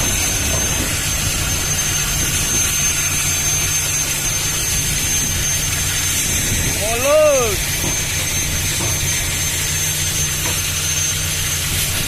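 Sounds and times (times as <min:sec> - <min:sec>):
constant high whine: 0:00.0 - 0:12.0
heavy engine droning: 0:00.0 - 0:12.0.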